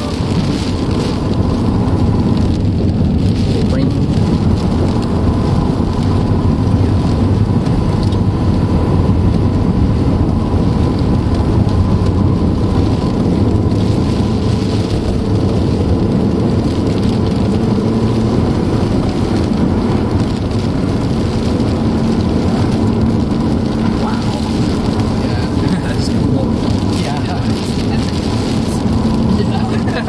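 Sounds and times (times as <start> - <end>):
rain on a car: 0.0 - 30.0
road and engine noise: 0.0 - 30.0.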